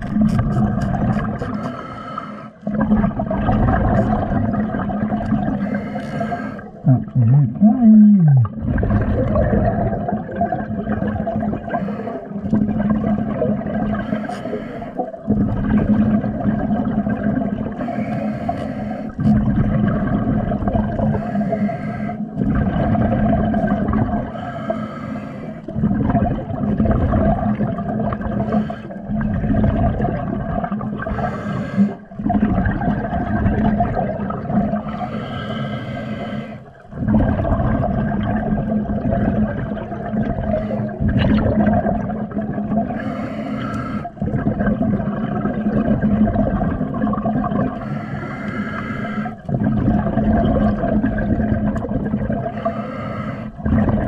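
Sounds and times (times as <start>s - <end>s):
muffled underwater noise: 0.0s - 54.0s.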